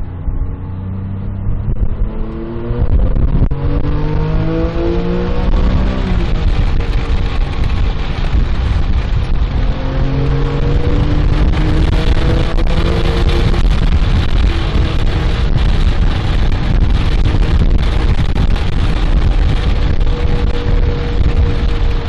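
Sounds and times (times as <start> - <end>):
car engine accelerating: 0.0 - 22.0
road and wind rumble: 0.0 - 22.0.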